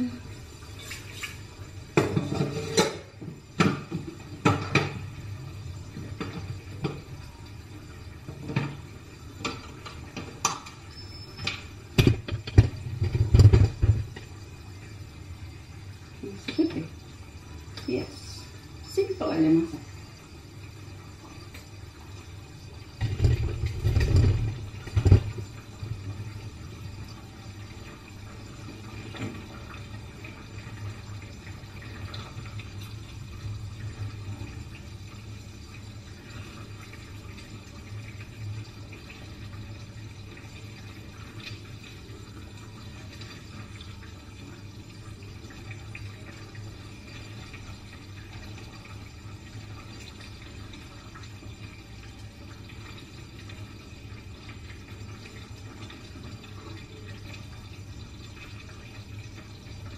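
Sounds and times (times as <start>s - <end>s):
curry bubbling in a pan: 0.0s - 59.9s.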